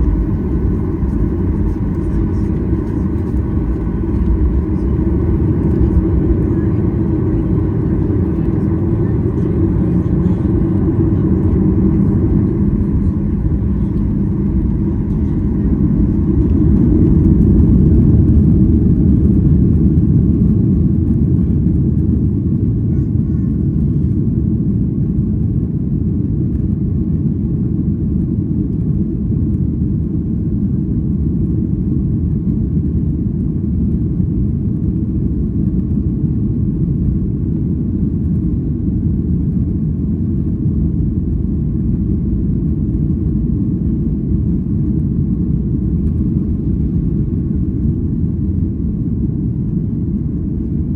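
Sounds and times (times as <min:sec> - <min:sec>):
airliner cabin engine rumble: 0:00.0 - 0:50.9.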